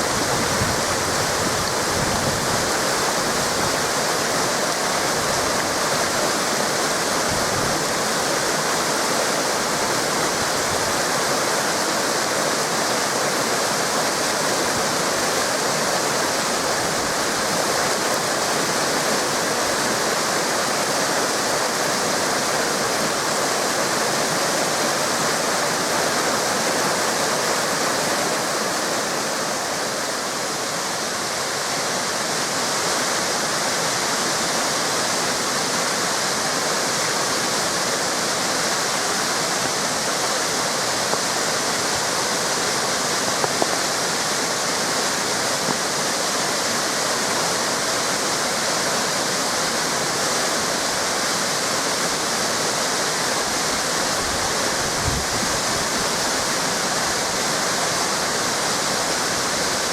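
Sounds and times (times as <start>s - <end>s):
waterfall and river rushing: 0.0s - 59.9s.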